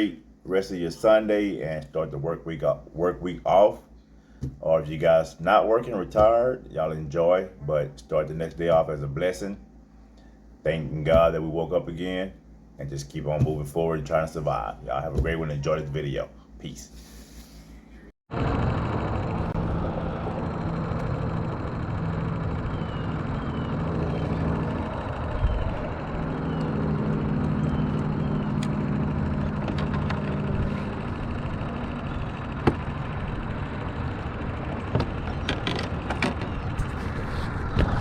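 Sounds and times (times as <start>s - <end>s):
boat motor running: 1.0s - 16.4s, 18.3s - 38.0s.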